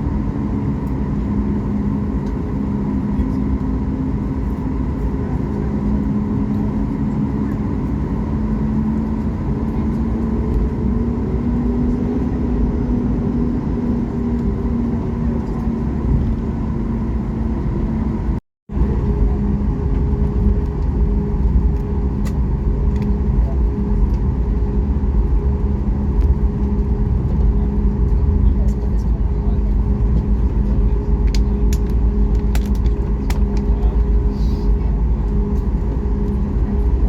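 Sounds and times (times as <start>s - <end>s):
airplane cabin jet engine hum: 0.0s - 37.0s.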